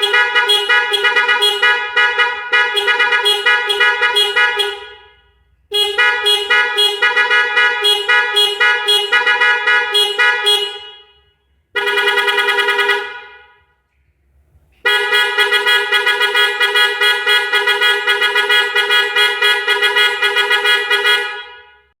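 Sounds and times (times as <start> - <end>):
car horn playing tunes: 0.0 - 13.8, 14.8 - 22.0.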